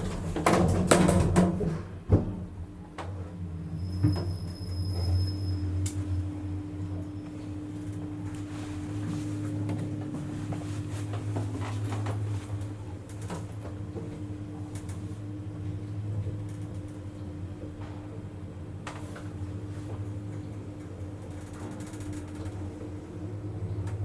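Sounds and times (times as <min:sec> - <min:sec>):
elevator machinery hum: 0:00.0 - 0:24.0.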